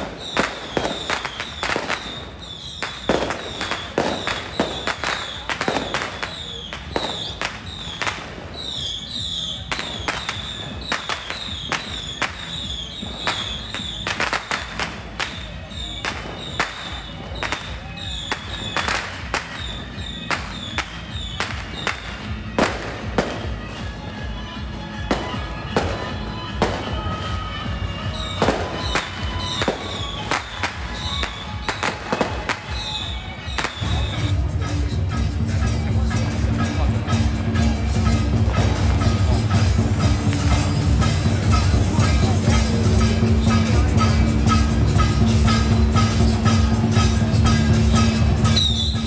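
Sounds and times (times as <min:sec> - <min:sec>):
firecrackers banging: 0:00.0 - 0:49.0.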